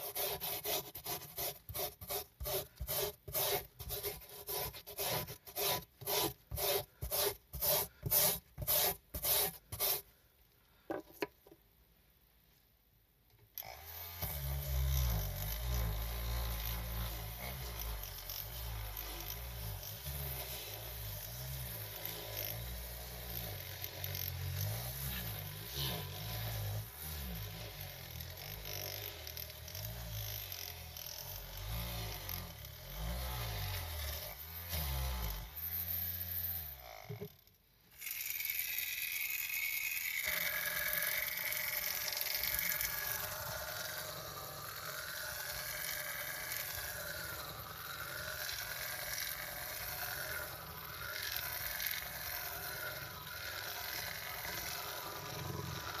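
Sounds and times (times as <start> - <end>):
small rotary scrub brush whirring: 0.0 - 10.1, 13.6 - 56.0.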